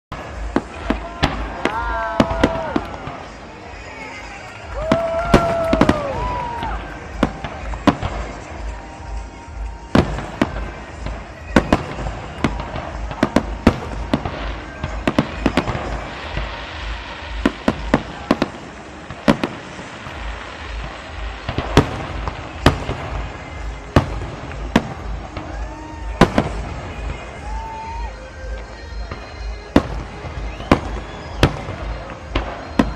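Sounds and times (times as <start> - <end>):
fireworks bangs: 0.1 - 32.9
fireworks crackle: 0.1 - 32.9.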